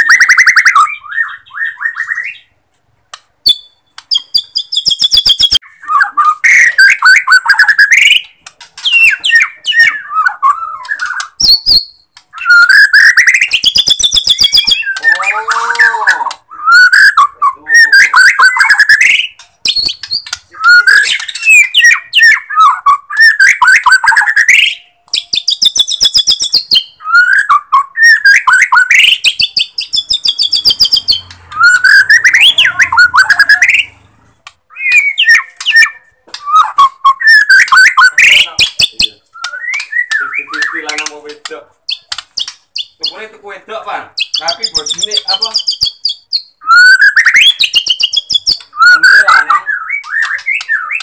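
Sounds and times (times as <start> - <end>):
songbird singing trills and whistles: 0.0 - 2.6, 3.4 - 34.0, 34.7 - 41.2, 41.9 - 43.3, 44.1 - 51.0.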